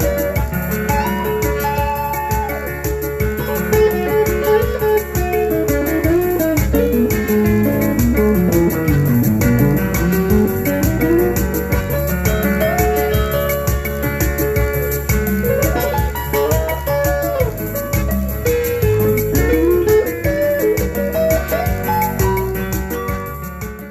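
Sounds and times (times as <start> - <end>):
bass: 0.0 - 23.9
sliding guitar melody: 0.0 - 23.9
steady beat: 0.0 - 23.9.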